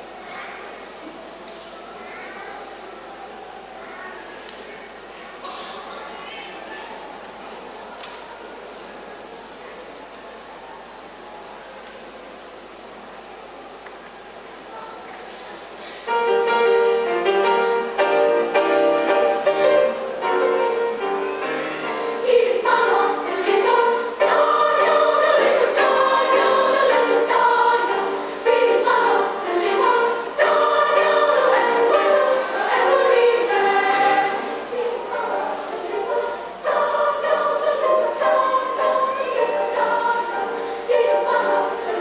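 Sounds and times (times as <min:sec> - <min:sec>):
children's choir singing: 0:00.0 - 0:42.0.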